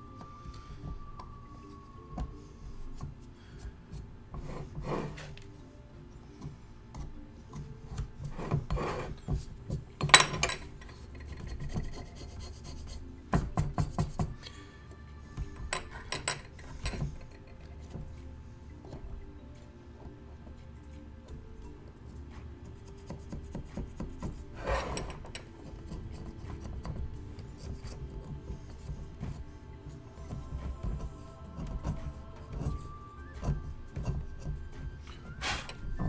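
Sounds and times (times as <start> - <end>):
quiet background music: 0.0 - 36.0.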